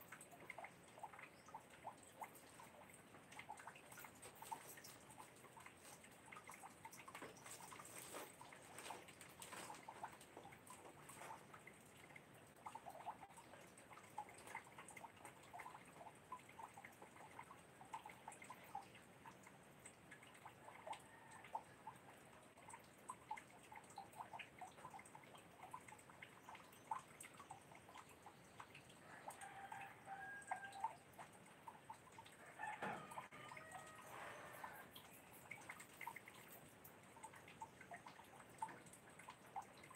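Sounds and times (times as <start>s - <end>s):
water dripping and splashing: 0.0s - 39.9s.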